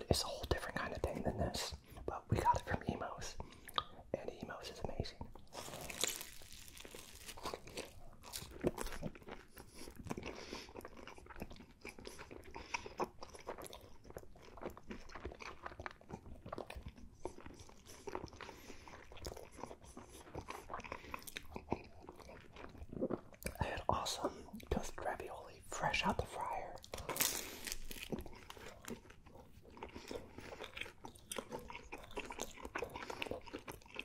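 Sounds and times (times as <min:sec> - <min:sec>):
chewing pizza crunches: 0:05.0 - 0:25.0, 0:26.2 - 0:34.0.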